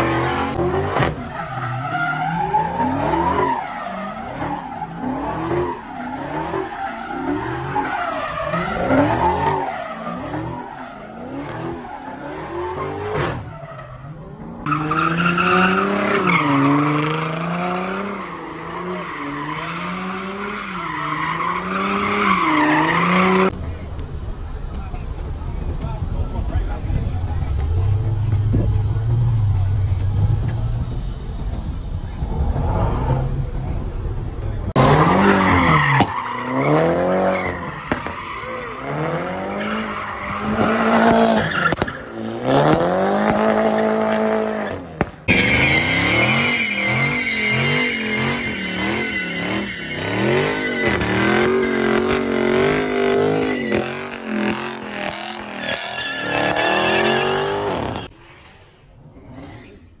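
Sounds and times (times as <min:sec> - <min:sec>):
tires squealing: 0:00.0 - 0:23.6, 0:24.6 - 1:00.0
car engines revving: 0:00.0 - 1:00.0.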